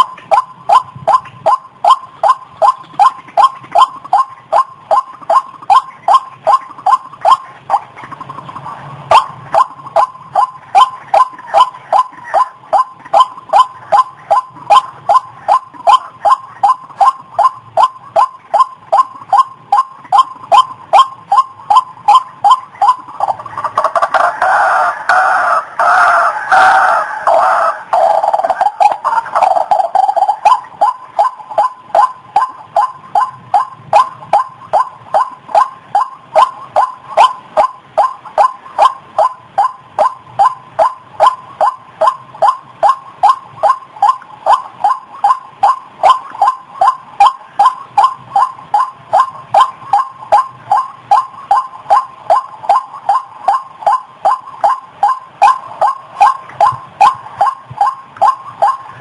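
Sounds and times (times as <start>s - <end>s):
bird harsh croaking calls: 0.0s - 41.8s, 42.4s - 59.0s.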